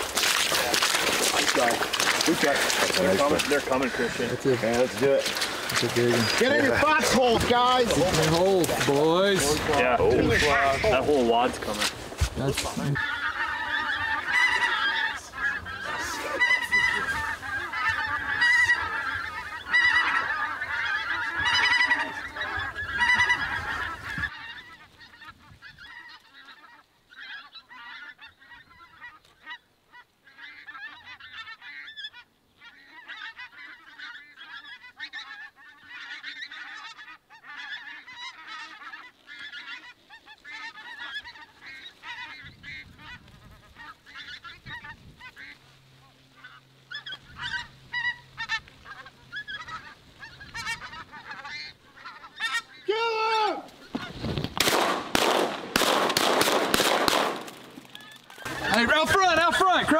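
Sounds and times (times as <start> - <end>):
geese honking: 0.0 - 59.9.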